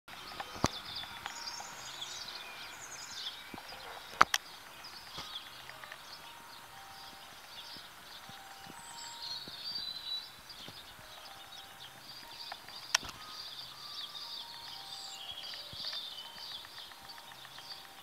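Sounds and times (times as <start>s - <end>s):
sharp clicks: 0.1s - 2.5s, 3.2s - 18.0s
songbirds chirping and twittering: 0.1s - 18.0s.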